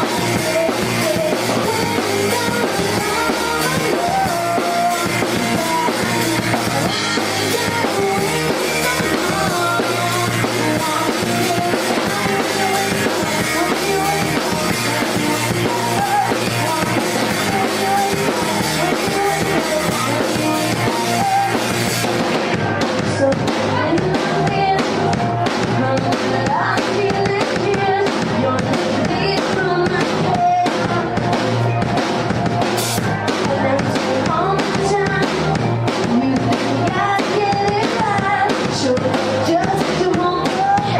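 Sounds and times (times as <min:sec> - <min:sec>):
drum kit beat: 0:00.0 - 0:40.9
live pop-rock band playing: 0:00.0 - 0:40.9.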